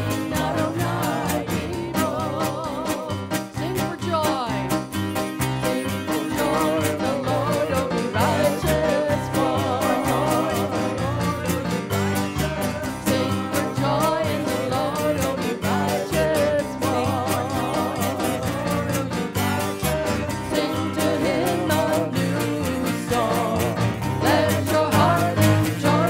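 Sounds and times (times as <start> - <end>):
upbeat worship song: 0.0 - 26.0.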